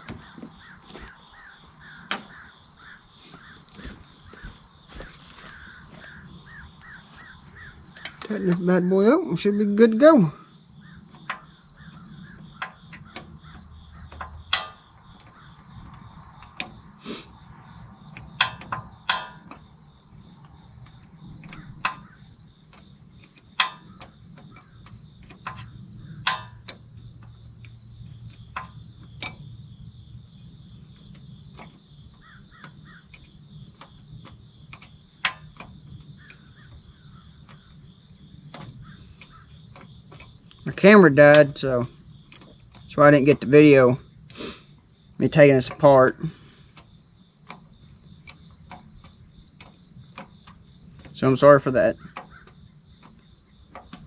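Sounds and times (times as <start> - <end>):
sharp clicks and knocks: 0.0 - 10.2, 10.9 - 17.0, 18.0 - 29.6, 30.7 - 44.6, 45.2 - 54.0
insects chorus: 0.0 - 54.0.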